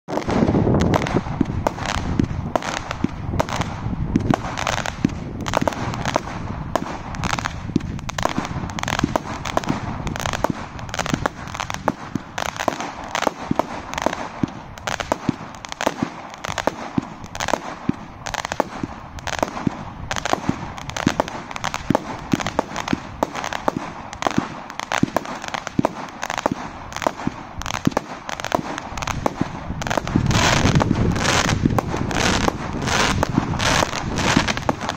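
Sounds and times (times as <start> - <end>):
firework cake firing rapidly: 0.1 - 34.9.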